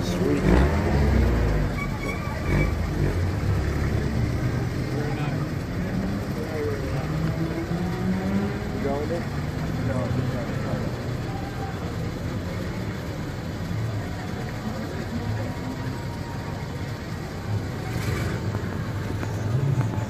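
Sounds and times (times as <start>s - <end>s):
car engine idling: 0.0s - 20.0s
street noise: 0.0s - 20.0s.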